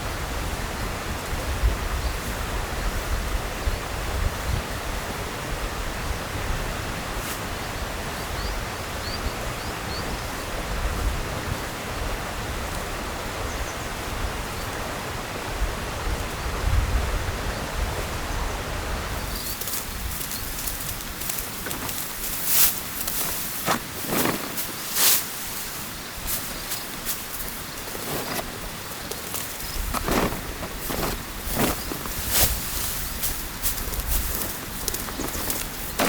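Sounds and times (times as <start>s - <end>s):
wind buffeting microphone: 0.0s - 24.9s, 25.6s - 36.0s.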